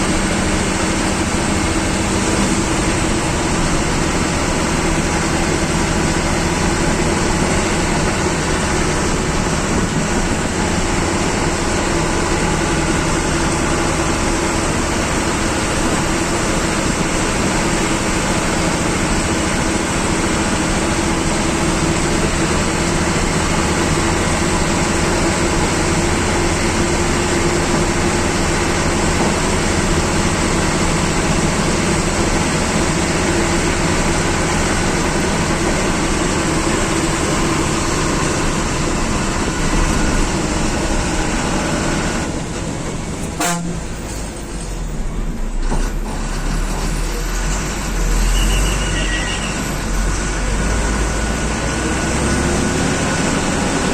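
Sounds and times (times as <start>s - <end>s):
bus diesel engine droning: 0.0s - 53.9s
road noise: 0.0s - 53.9s.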